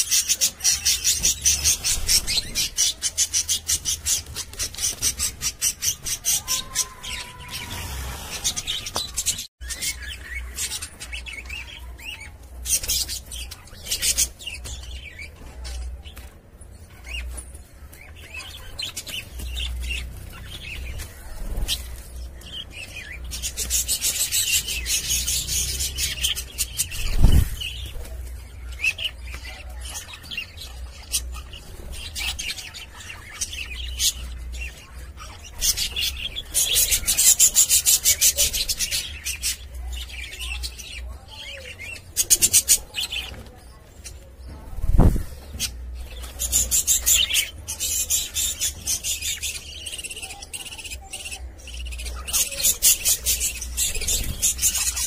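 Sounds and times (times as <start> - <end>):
budgerigars chirping: 0.0 - 15.4, 18.0 - 44.3, 45.3 - 55.0.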